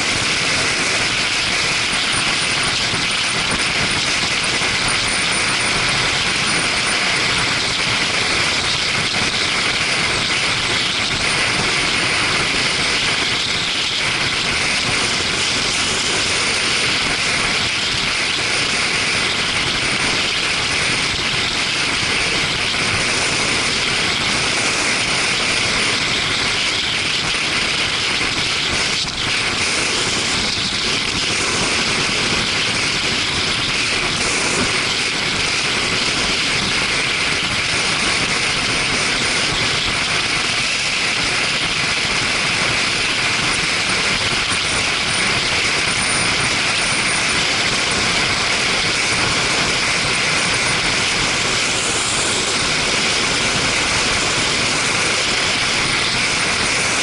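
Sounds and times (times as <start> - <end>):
motorcycle engine: 0.0 - 57.0
wind rush: 0.0 - 57.0.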